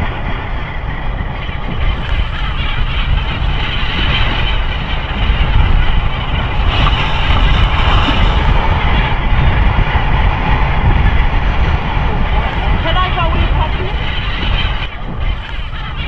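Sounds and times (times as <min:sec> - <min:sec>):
choppy sea: 0:00.0 - 0:16.0
wind: 0:00.0 - 0:16.0.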